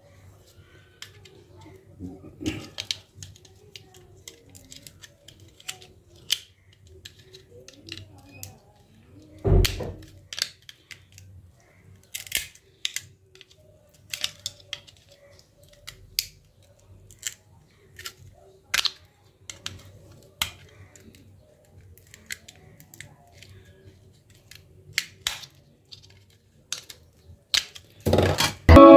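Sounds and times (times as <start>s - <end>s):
plastic clicks and snaps: 2.4s - 28.9s.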